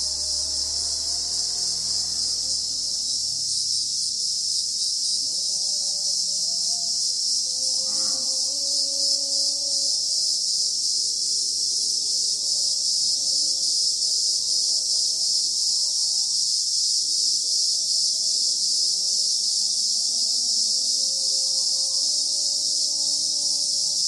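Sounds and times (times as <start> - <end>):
insects chorus: 0.0 - 24.0.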